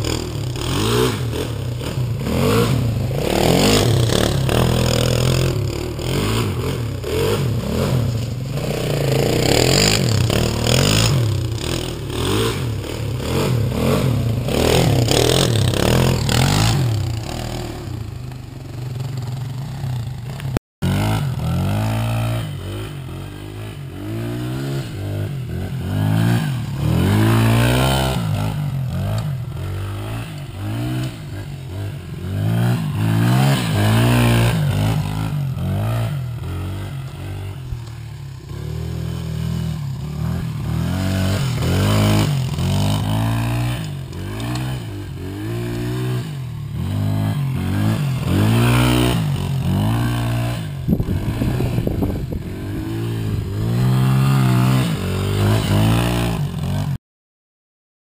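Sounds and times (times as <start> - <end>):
dirt bike and atv engines revving: 0.0 - 57.0.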